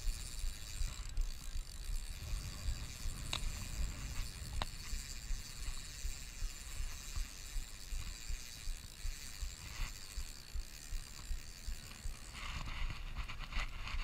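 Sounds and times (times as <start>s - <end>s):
fishing reel ratcheting: 0.0s - 14.0s.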